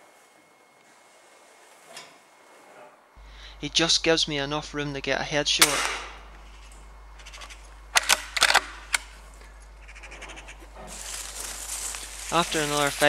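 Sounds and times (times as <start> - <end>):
rustling hiss: 0.0 - 13.0.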